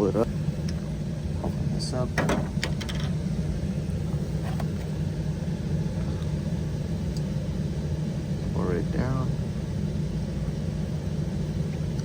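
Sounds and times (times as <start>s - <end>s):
hvac unit humming: 0.0s - 12.0s.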